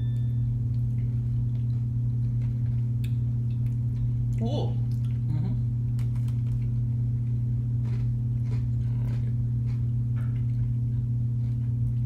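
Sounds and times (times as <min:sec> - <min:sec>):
person chewing cookie crunching: 0:00.0 - 0:12.0
steady low hum: 0:00.0 - 0:12.0.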